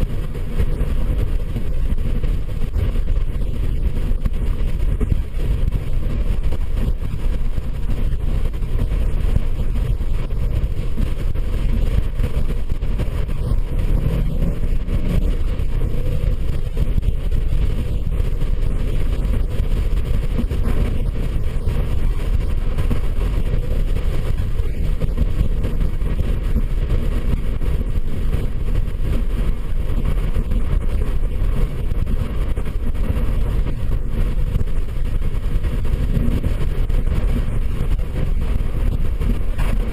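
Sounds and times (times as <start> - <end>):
vehicle driving low rumble: 0.0 - 39.9.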